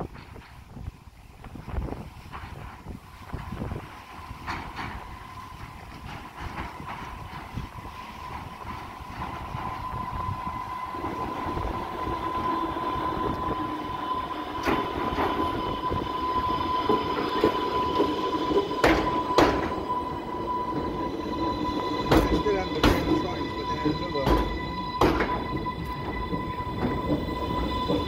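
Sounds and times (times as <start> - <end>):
electric train whine: 0.0 - 28.0
wheels clacking on rail joints: 0.0 - 28.0.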